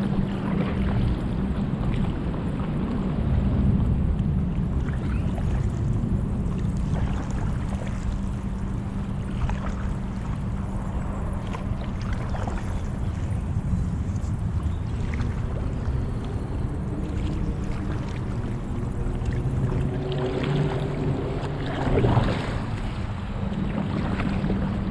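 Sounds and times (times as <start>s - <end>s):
low hum: 0.0s - 24.9s
paddle strokes: 4.2s - 24.9s
water splashing against paddleboard: 4.7s - 24.9s.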